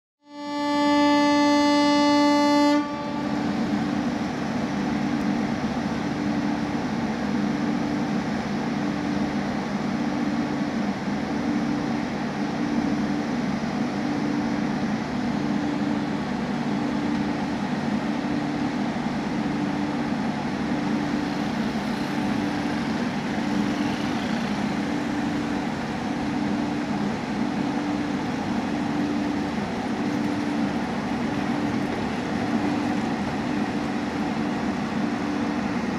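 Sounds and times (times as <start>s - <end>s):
train rumbling: 0.6s - 35.9s.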